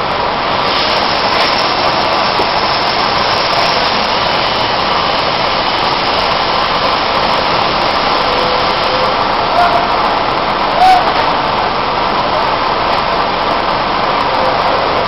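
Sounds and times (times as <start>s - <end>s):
industrial vacuum cleaner running: 0.0s - 15.0s.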